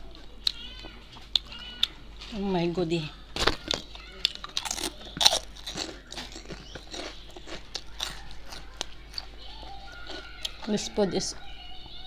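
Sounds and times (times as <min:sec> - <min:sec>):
chewing and crunching food: 0:00.0 - 0:02.4, 0:03.3 - 0:12.0.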